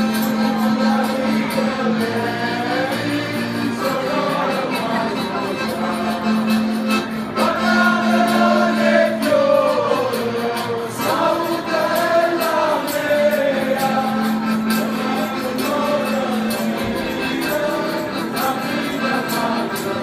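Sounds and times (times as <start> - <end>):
button accordion: 0.0 - 20.0
tambourine beating time: 0.0 - 20.0
voices singing together: 0.0 - 20.0.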